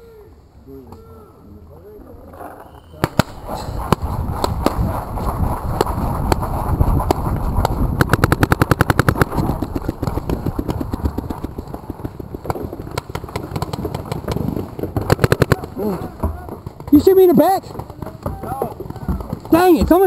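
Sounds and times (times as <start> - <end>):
paintball markers firing: 3.0 - 20.0.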